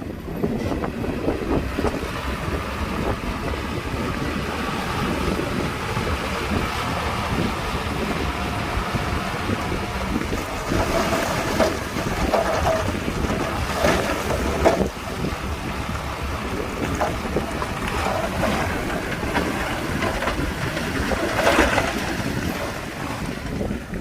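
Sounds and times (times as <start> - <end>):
bulldozer diesel engine running: 0.0 - 24.0
wind buffeting microphone: 0.0 - 24.0.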